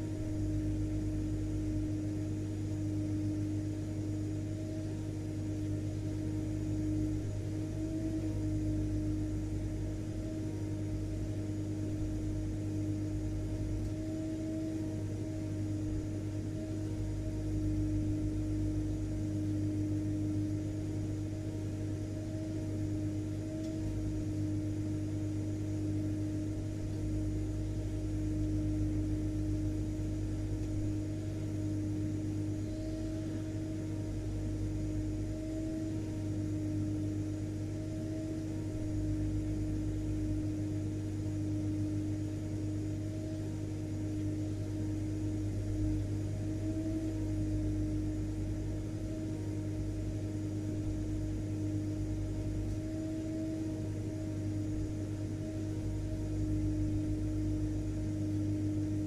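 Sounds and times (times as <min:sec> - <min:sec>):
vacuum cleaner motor: 0:00.0 - 0:59.0.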